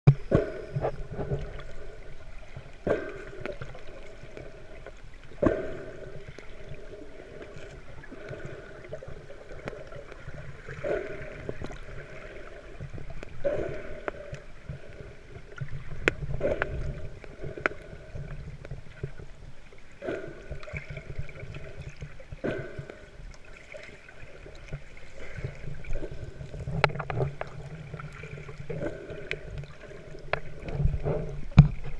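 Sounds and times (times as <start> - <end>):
underwater rumble of moving water: 0.1 - 31.9.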